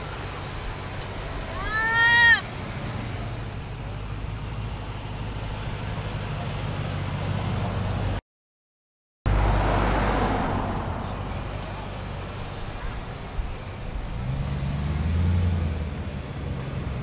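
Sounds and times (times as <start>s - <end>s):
cars driving past slowly: 0.0s - 8.2s, 9.3s - 17.0s.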